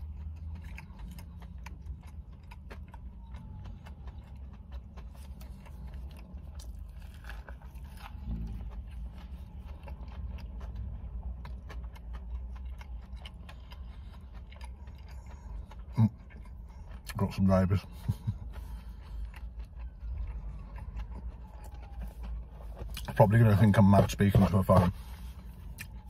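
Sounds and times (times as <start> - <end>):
crunchy chewing: 0.0 - 26.0.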